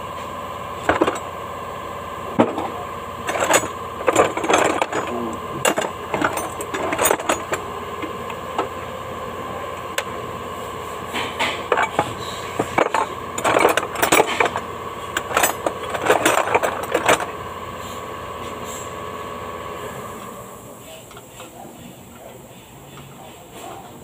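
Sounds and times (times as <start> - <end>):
steady hum: 0.0 - 23.1.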